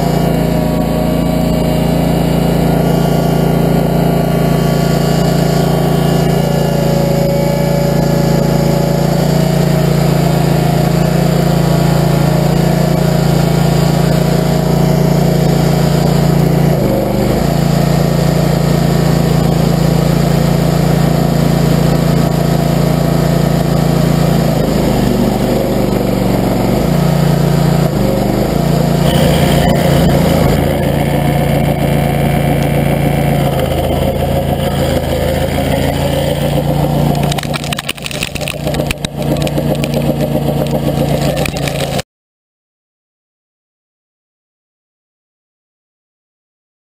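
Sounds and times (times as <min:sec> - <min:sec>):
stump grinder engine running: 0:00.0 - 0:42.0.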